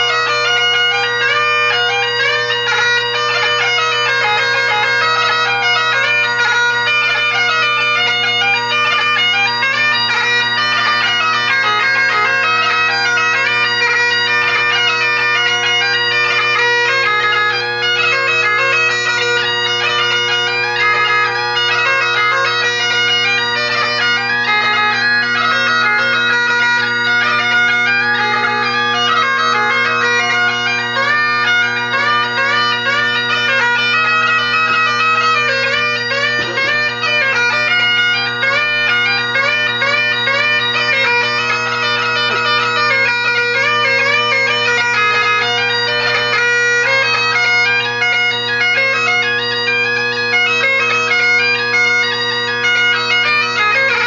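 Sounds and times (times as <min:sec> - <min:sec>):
bagpipe playing: 0:00.0 - 0:54.0.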